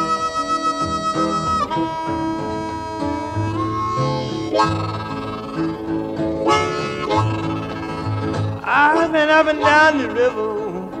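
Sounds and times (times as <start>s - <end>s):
harmonica playing held notes: 0.0s - 10.3s
guitar and bass backing: 0.0s - 11.0s.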